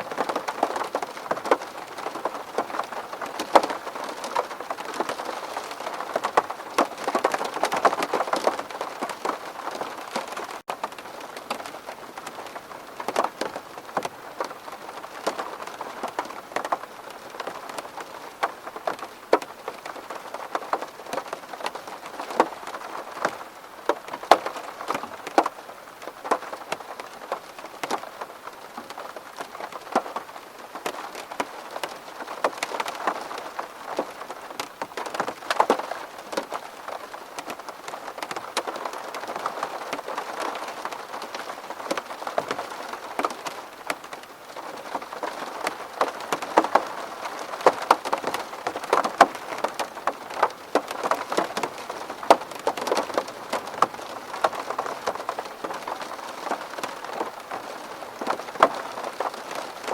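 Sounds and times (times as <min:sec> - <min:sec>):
rain pattering on window: 0:00.0 - 0:59.9.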